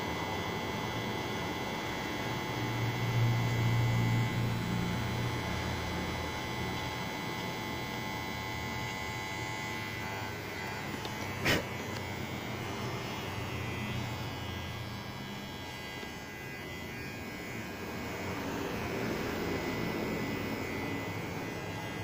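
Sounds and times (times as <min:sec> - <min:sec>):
electric hair clipper buzzing: 0:00.0 - 0:22.0.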